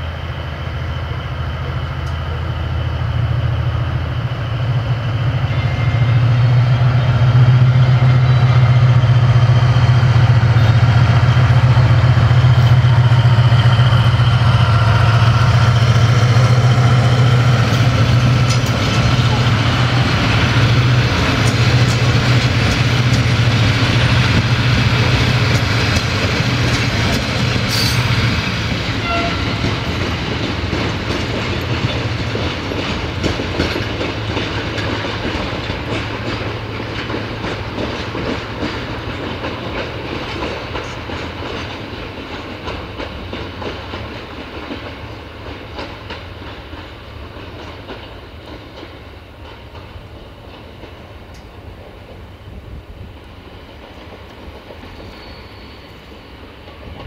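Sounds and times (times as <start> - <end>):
train wheels clicking on rail joints: 1.7 - 2.4, 3.2 - 57.0.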